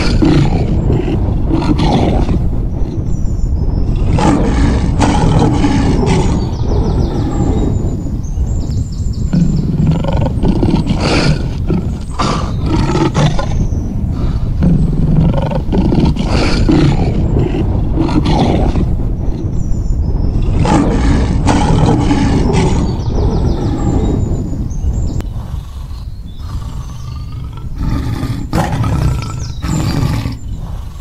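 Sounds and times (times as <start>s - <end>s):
lion roaring: 0.0s - 8.6s, 9.2s - 19.6s, 20.2s - 31.0s.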